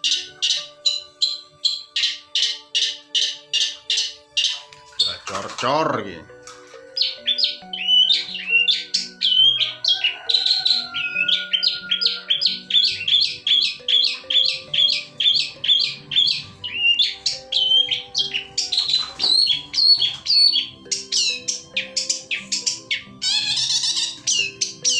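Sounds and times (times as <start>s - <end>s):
bird chirping song: 0.0s - 24.9s
soft background music: 0.0s - 24.9s.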